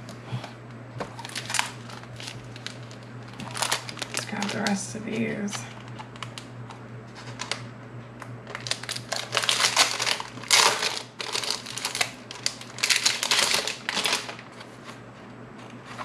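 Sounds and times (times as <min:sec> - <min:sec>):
paper and plastic rustling: 0:01.0 - 0:06.5, 0:07.1 - 0:07.6, 0:08.5 - 0:16.0.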